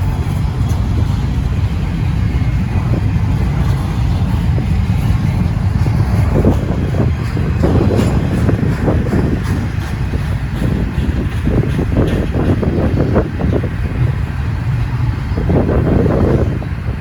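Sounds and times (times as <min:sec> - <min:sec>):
freight train rumbling past: 0:00.0 - 0:17.0
wind buffeting microphone: 0:00.0 - 0:17.0.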